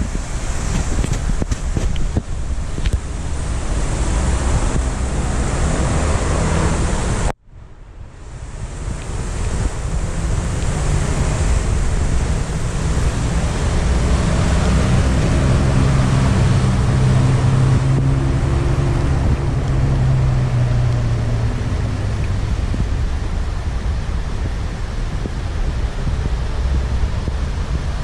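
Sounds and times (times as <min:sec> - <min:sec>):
steady rain hiss: 0:00.0 - 0:28.0
vehicle engine drone: 0:00.0 - 0:28.0.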